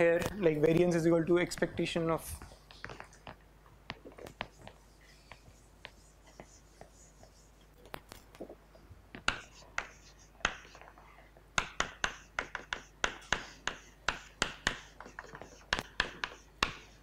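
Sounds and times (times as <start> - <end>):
chalk tapping and scratching: 2.4 - 8.3, 9.2 - 17.0.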